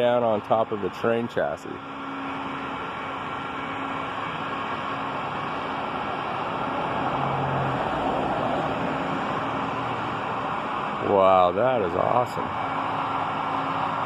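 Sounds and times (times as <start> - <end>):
faint low engine hum: 0.0 - 14.0
traffic hiss and rumble: 0.0 - 14.0.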